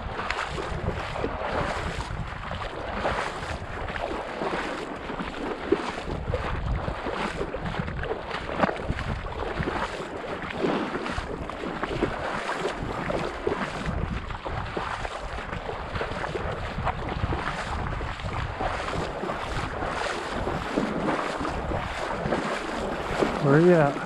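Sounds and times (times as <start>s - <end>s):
wading sloshing through water: 0.0s - 24.0s
wind buffeting microphone: 0.0s - 24.0s.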